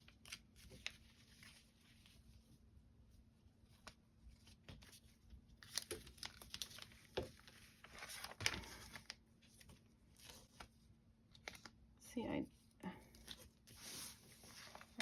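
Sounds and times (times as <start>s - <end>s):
paper rustling and crinkling: 0.0s - 2.5s, 3.7s - 11.8s, 13.1s - 15.0s.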